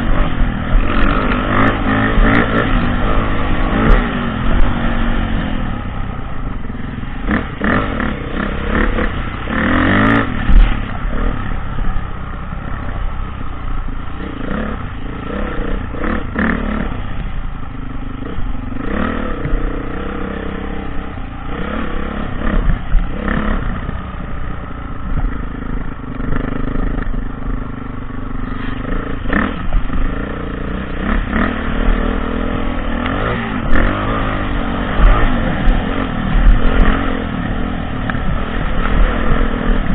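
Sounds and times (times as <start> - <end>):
dirt bike engine revving: 0.0 - 17.5, 18.2 - 39.9.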